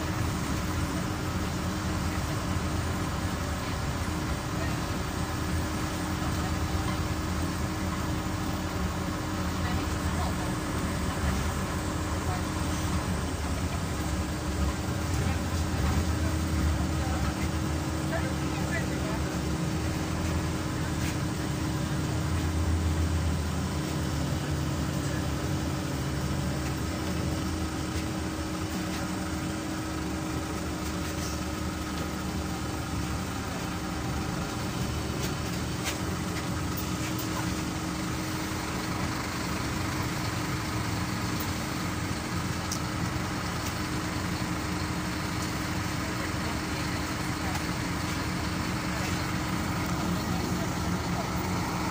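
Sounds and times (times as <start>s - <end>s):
bus engine humming: 0.0s - 51.9s.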